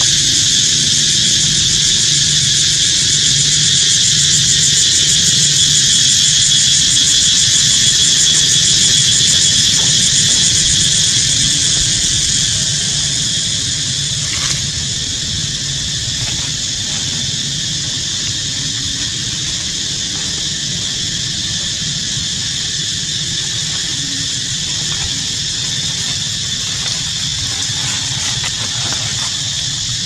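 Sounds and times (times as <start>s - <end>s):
high-pitched insect buzzing: 0.0s - 30.0s.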